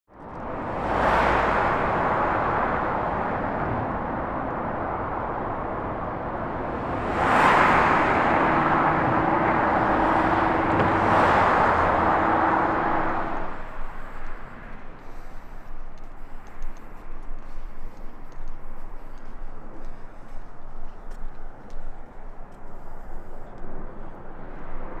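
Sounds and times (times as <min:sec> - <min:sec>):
cars driving past: 0:00.1 - 0:25.0
steady traffic hum: 0:00.1 - 0:25.0.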